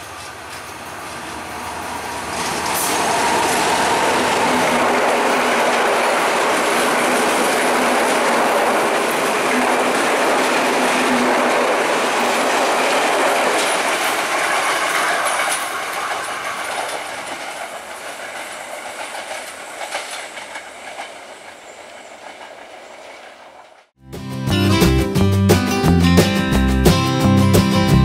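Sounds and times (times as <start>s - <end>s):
train wheels clattering on rails: 0.0s - 23.9s.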